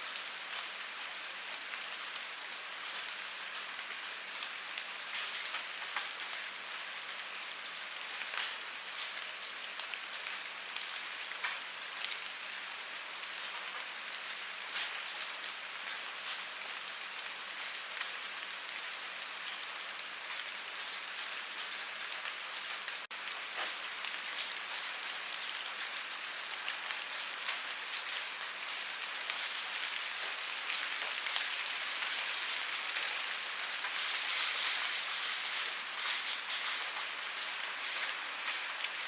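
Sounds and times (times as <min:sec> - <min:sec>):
steady rain hiss: 0:00.0 - 0:39.0
raindrop ticks: 0:02.8 - 0:12.6, 0:13.2 - 0:39.0.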